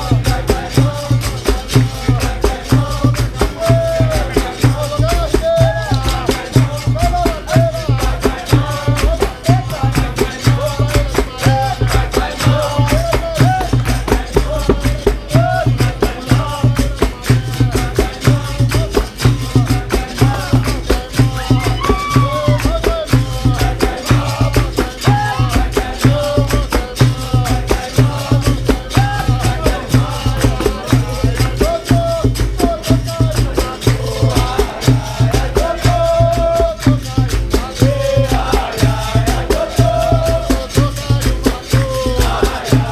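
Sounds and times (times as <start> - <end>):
percussion rhythm: 0.0 - 42.9
person singing: 0.0 - 42.9
rattling shaker: 0.0 - 42.9.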